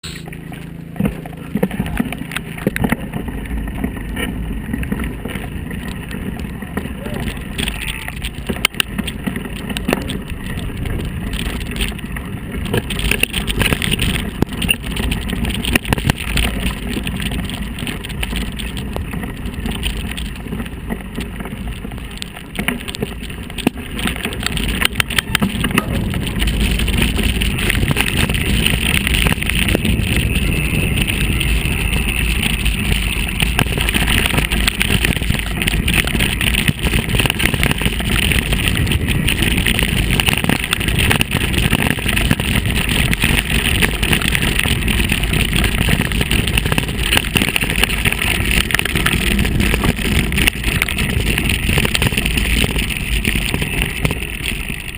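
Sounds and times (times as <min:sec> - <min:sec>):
bicycle riding rumble: 0:00.0 - 0:54.9
wind on microphone: 0:01.4 - 0:54.9.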